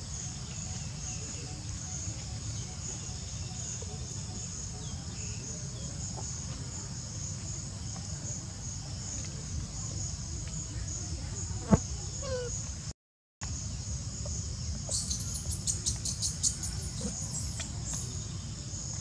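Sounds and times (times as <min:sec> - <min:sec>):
insects chirring: 0:00.0 - 0:12.8, 0:13.4 - 0:19.0.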